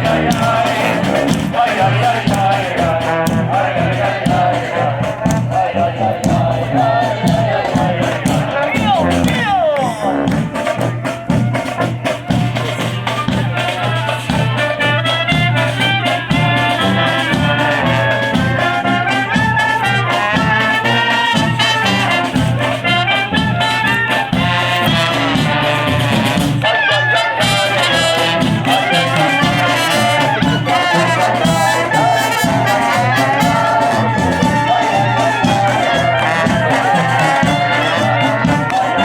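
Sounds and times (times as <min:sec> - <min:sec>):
brass band playing lively tune: 0:00.0 - 0:39.0.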